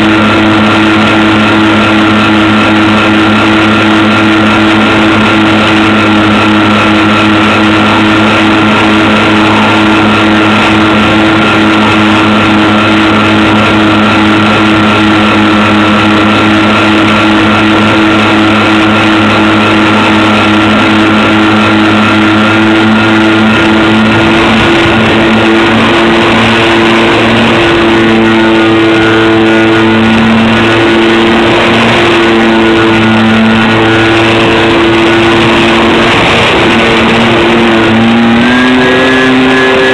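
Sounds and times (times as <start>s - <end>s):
electric motors and propellers whining: 0.0s - 39.9s.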